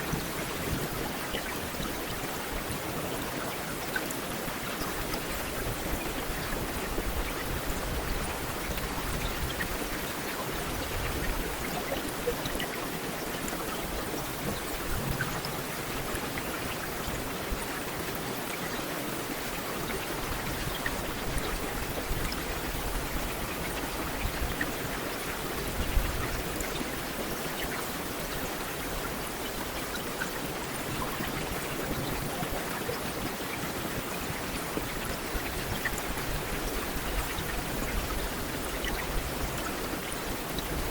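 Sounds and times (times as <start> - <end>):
heavy rain on a street: 0.0 - 40.9.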